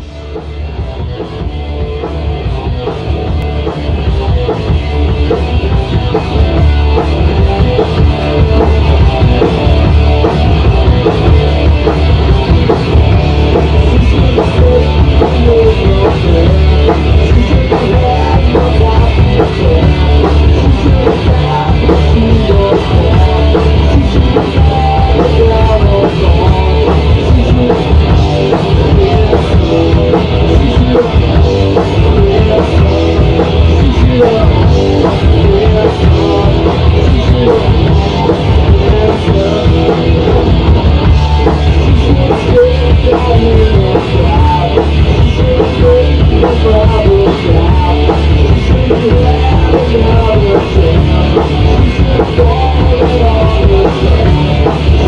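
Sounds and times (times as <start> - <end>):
punk rock band playing: 0.0 - 55.0.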